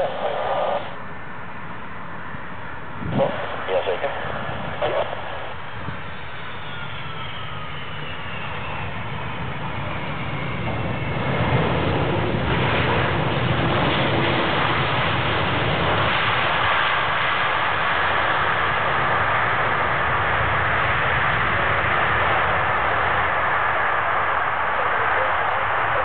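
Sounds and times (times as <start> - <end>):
jet engines rushing: 0.0 - 26.0
engine whine falling in pitch: 3.0 - 26.0.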